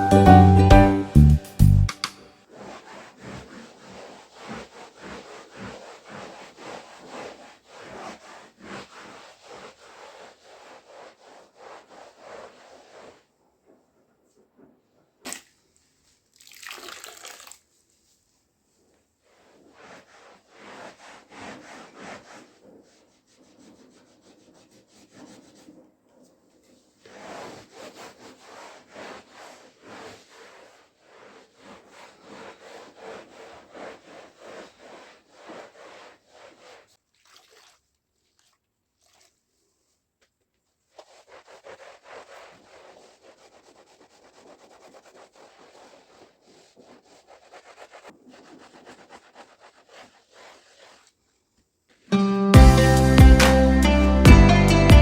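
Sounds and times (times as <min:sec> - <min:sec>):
rapid scrubbing strokes: 0:01.2 - 0:16.2, 0:17.9 - 0:39.9, 0:40.7 - 0:54.8.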